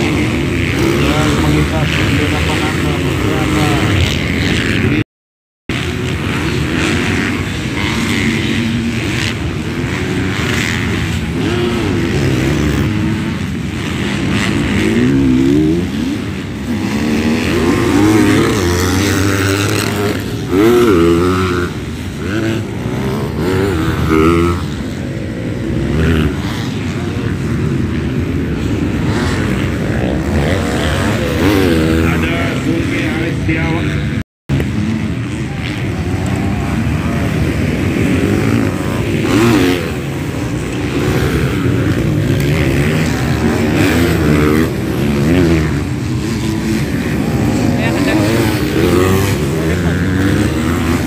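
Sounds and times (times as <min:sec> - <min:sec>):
motocross bikes revving: 0:00.0 - 0:05.0, 0:05.7 - 0:51.0.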